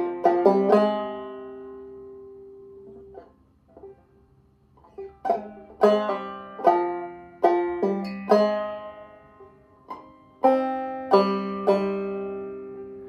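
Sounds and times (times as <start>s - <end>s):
banjo notes: 0.0s - 13.0s.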